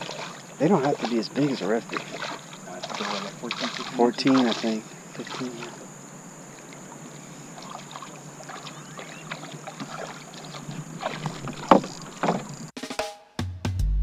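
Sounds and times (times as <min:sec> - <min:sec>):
water splashes and knocks: 0:00.0 - 0:05.9, 0:06.5 - 0:12.7
faint wind: 0:00.0 - 0:12.7
water noise: 0:00.0 - 0:12.8.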